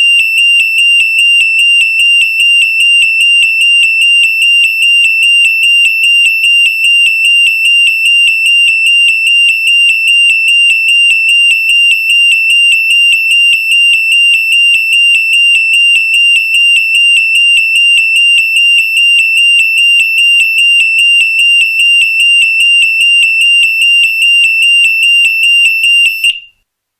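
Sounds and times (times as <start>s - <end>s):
pulsing burglar alarm tone: 0.0s - 26.4s.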